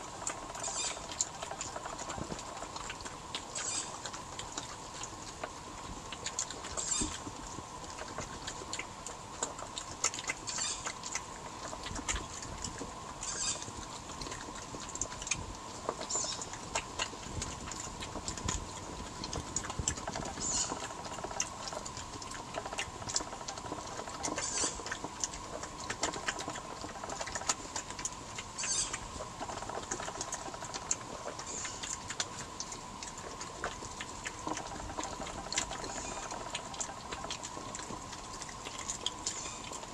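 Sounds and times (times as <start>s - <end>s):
animals crunching nuts: 0.0s - 39.9s
faint hum: 0.0s - 39.9s.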